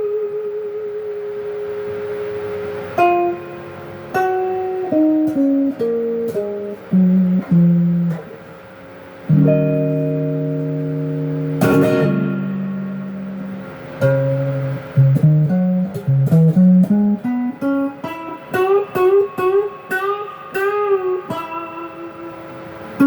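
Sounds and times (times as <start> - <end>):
overdriven electric guitar: 0.0 - 23.0.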